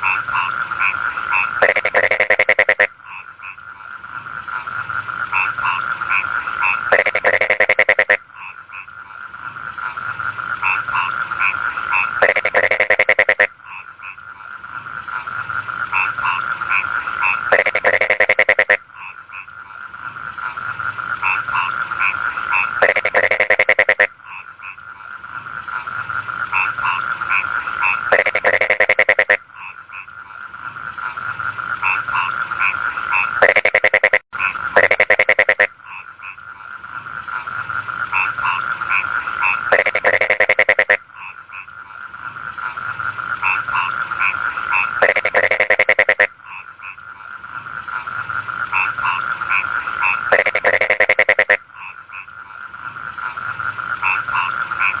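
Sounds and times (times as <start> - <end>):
frog chirps: 0.0 - 55.0
frogs trilling in chorus: 0.0 - 55.0
loud fast-pulsed frog croak: 0.0 - 55.0.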